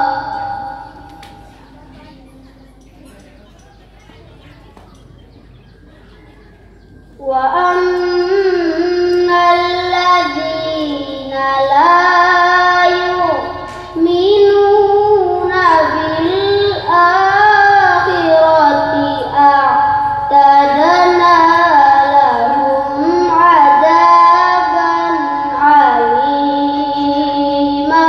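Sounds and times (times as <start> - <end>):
girl chanting melodic recitation: 0.0 - 4.7, 7.2 - 28.0.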